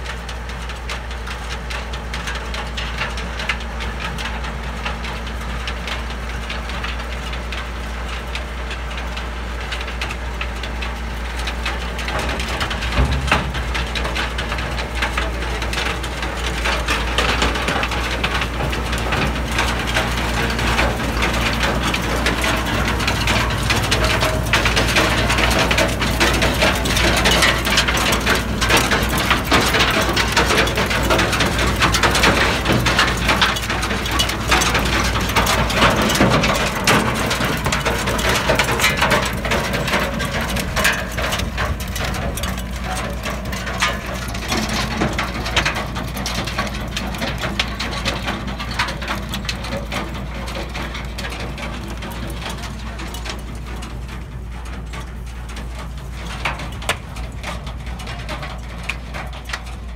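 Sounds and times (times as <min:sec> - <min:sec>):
stone picker rattling and clattering: 0:00.0 - 0:59.9
tractor engine running low: 0:00.0 - 0:59.9.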